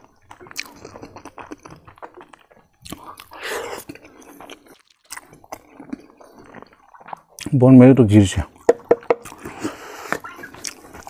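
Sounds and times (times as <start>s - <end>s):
close-up chewing: 0.0s - 7.6s, 8.4s - 11.0s.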